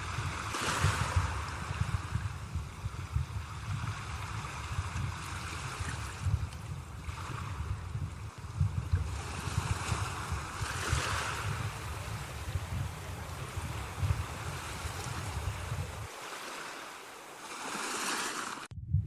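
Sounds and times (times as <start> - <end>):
sea waves breaking: 0.0 - 18.7.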